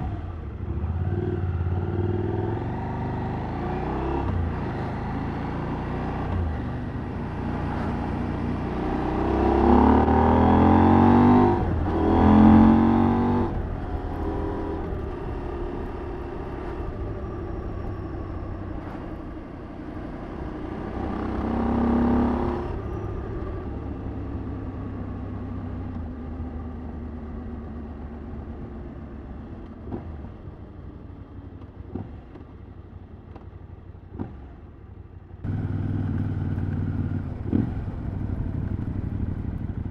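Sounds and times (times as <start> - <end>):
motorcycle engine accelerating: 0.0 - 30.7, 35.4 - 39.9.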